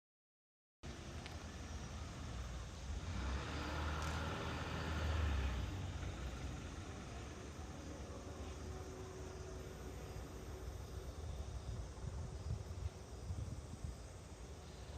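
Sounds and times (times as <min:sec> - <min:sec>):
passing vehicle engine rumble: 0:00.9 - 0:14.9.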